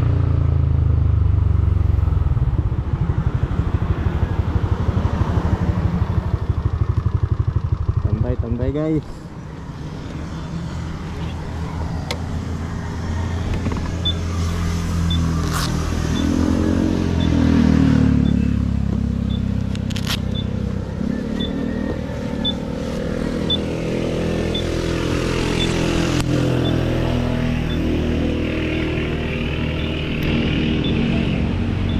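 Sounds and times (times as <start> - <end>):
scooter engine accelerating: 0.0 - 31.9.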